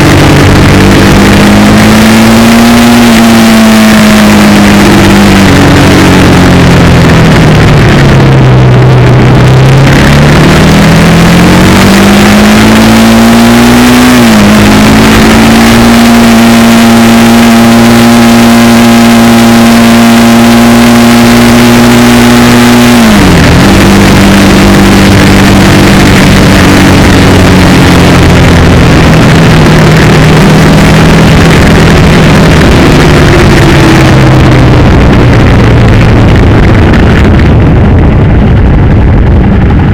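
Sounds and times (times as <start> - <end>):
motorcycle engine shifting gears: 0.0 - 39.9
rush of noise: 0.0 - 39.9.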